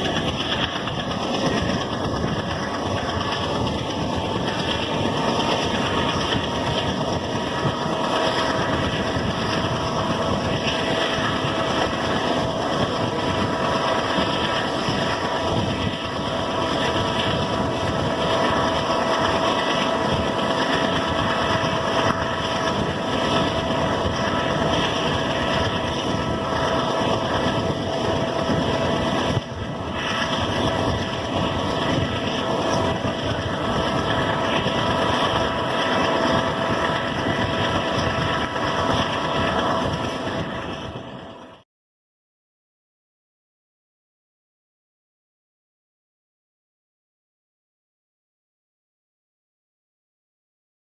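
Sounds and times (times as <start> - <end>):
locomotive diesel engine running: 0.0 - 41.6.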